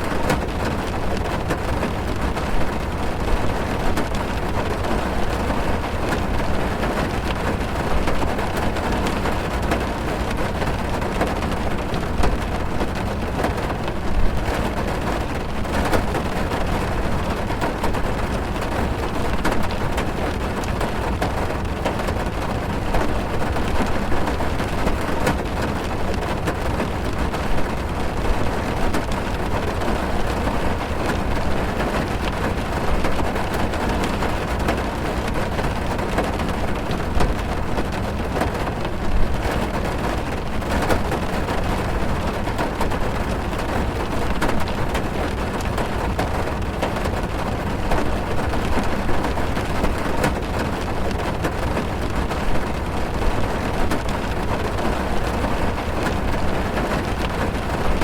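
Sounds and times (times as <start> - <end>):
rain on a car roof: 0.0 - 58.0
raindrops ticking: 0.0 - 58.0.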